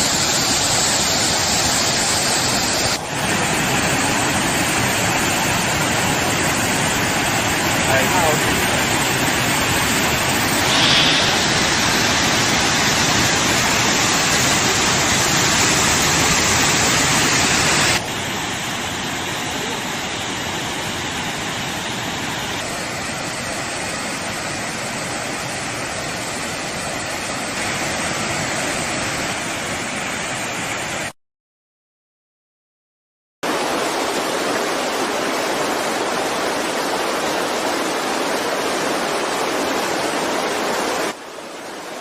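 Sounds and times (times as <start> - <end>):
rushing water: 0.0 - 31.1, 33.4 - 42.0.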